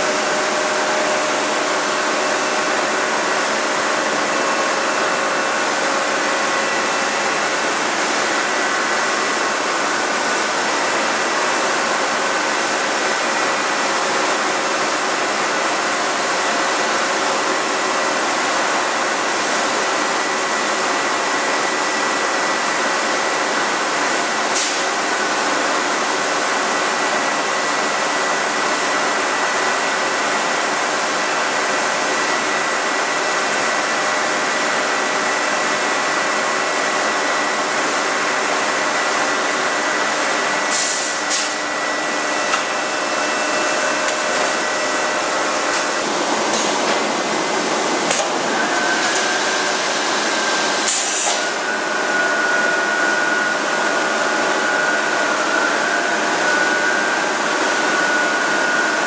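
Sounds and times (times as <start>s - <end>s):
high machine whine: 0.0s - 59.0s
rolling mill machinery whining: 0.0s - 59.0s.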